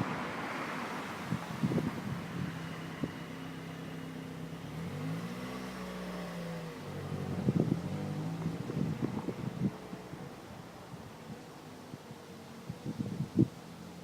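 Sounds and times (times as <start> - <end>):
passing car engine hum: 0.0 - 14.0.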